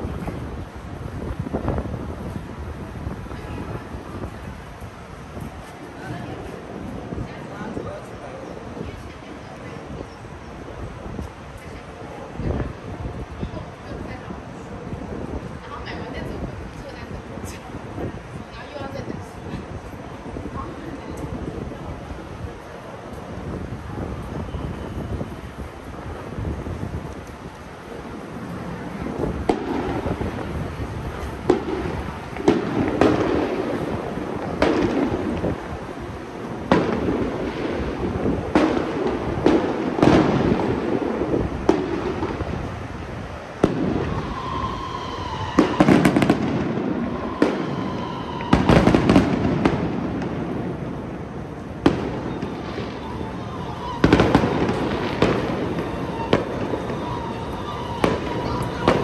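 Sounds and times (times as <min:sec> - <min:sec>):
firecrackers banging: 0:11.0 - 0:59.0.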